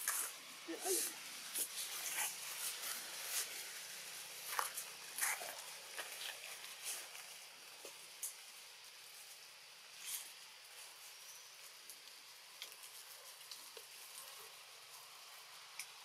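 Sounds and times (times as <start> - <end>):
forest background hiss: 0.0 - 16.0.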